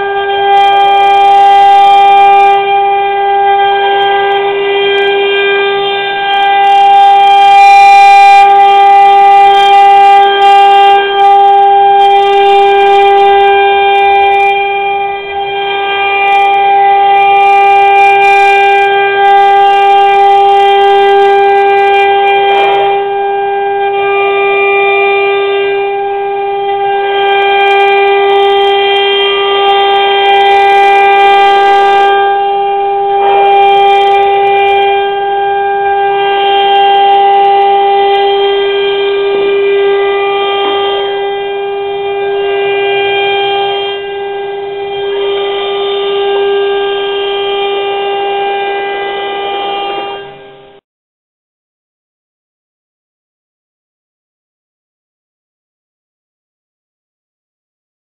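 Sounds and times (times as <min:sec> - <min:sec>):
router spindle high-pitched whine: 0:00.0 - 0:50.8.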